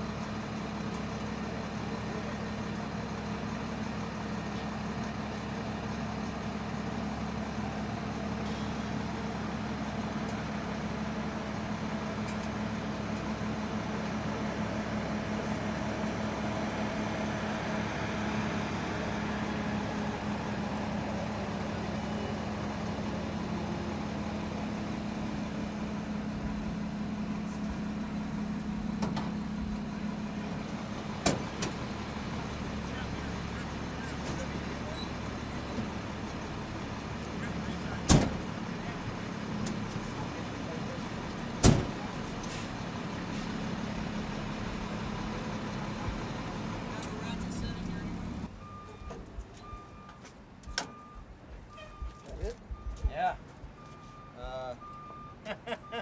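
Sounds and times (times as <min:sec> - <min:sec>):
engine idling: 0:00.0 - 0:50.1.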